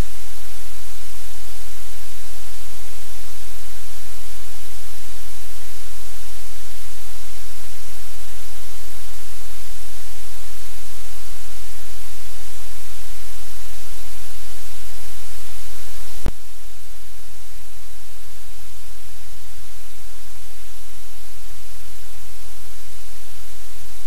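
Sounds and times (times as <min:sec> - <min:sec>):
static hiss: 0:00.0 - 0:24.0.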